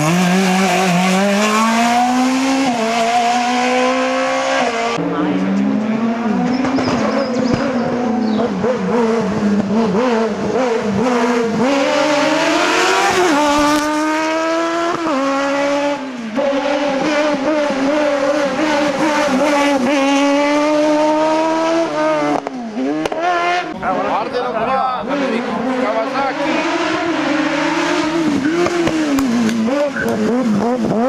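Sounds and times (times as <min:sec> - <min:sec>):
race car engine revving: 0:00.0 - 0:31.0.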